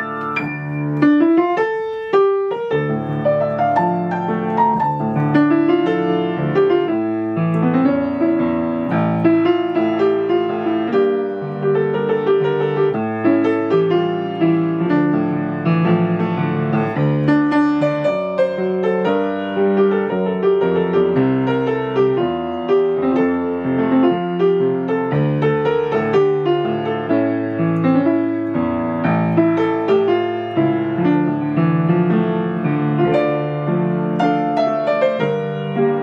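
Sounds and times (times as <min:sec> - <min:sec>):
upright piano playing: 0:00.0 - 0:36.0.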